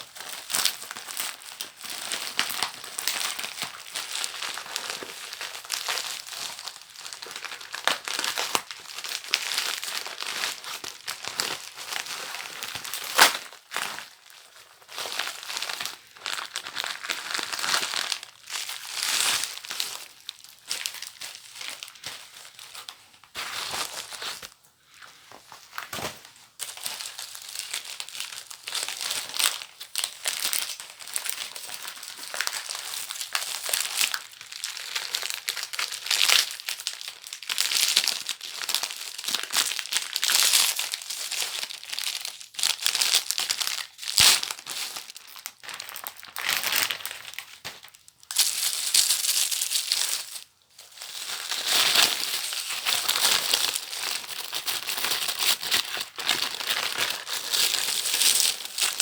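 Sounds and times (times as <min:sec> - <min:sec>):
paper packaging crinkling: 0:00.0 - 0:59.0.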